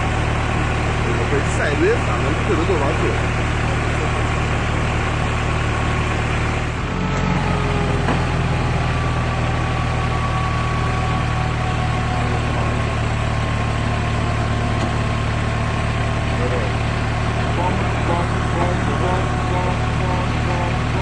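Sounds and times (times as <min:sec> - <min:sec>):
heavy vehicle engine idling: 0:00.0 - 0:21.0.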